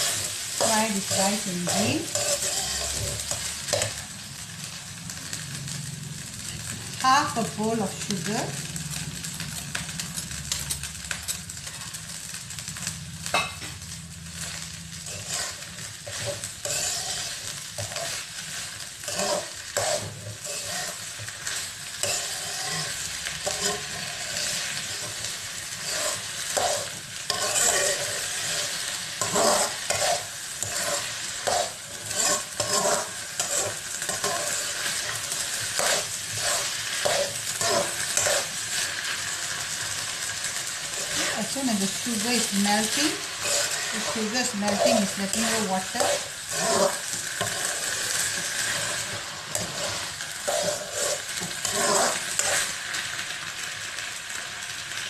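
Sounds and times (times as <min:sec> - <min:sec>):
metal spatula scraping wok: 0:00.0 - 0:53.5
steady sizzle: 0:00.0 - 0:55.0.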